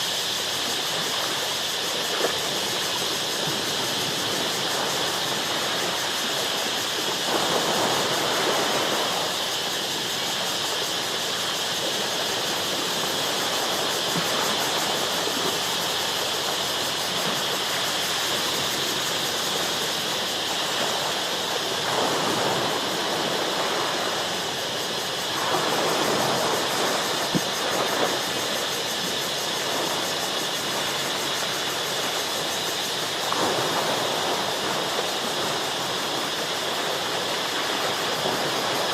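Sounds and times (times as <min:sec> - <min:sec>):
high-pitched insect hum: 0:00.0 - 0:38.9
ocean waves washing against rocks: 0:00.0 - 0:38.9.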